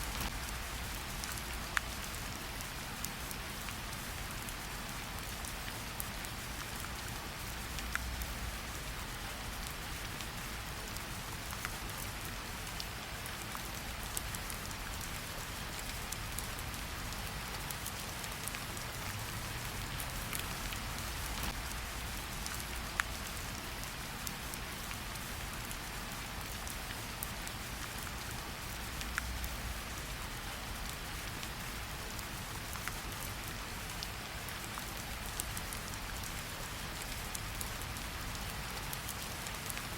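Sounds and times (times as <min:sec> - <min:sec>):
raindrops ticking: 0:00.0 - 0:11.9, 0:15.8 - 0:39.9
steady rain hiss: 0:00.0 - 0:39.9.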